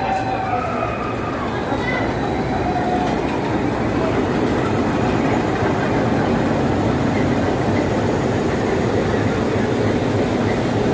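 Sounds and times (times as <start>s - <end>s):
locomotive engine rumble: 0.0s - 10.9s.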